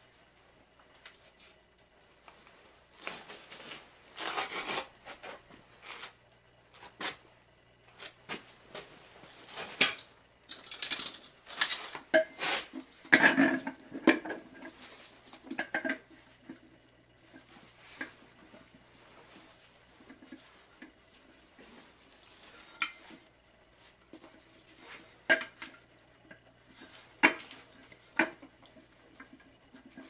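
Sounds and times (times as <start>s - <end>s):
rustling and scraping: 1.0s - 7.3s, 7.9s - 9.9s, 10.5s - 30.0s.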